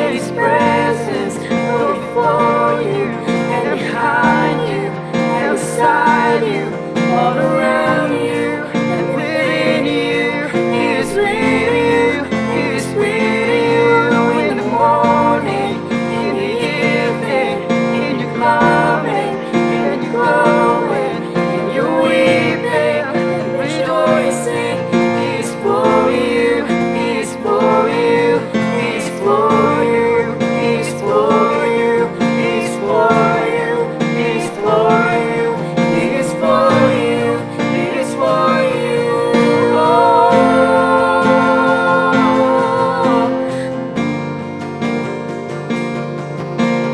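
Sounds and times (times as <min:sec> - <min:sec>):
keyboard: 0:00.0 - 0:46.9
people singing: 0:00.0 - 0:46.9
strummed acoustic guitar: 0:00.0 - 0:46.9.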